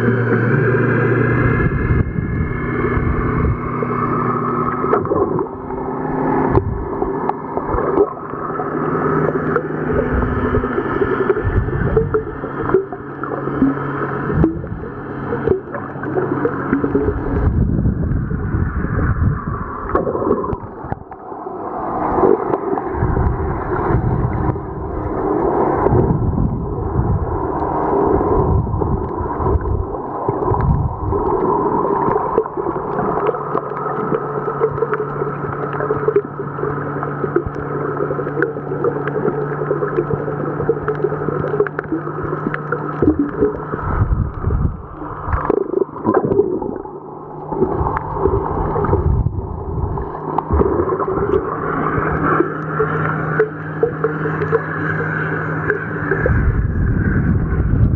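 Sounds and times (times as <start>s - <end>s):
motor drone through water: 0.0s - 57.9s
water sloshing and gurgling: 0.0s - 57.9s.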